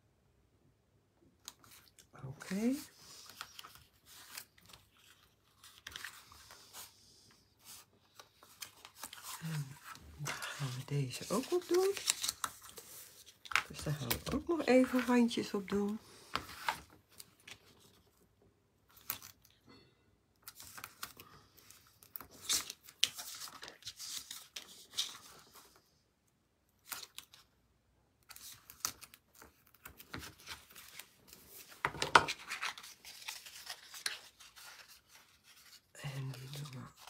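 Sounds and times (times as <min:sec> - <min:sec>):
paper rustling: 0:01.4 - 0:18.2, 0:20.4 - 0:25.8, 0:28.3 - 0:37.0.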